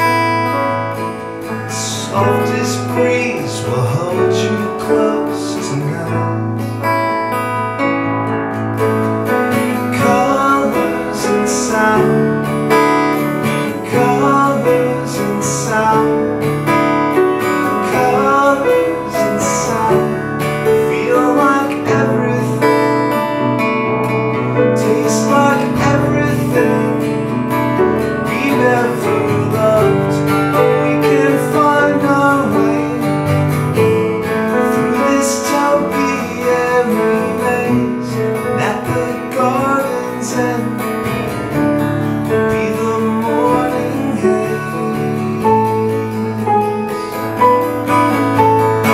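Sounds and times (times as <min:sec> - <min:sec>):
acoustic guitar strumming: 0:00.0 - 0:48.9
piano: 0:00.0 - 0:48.9.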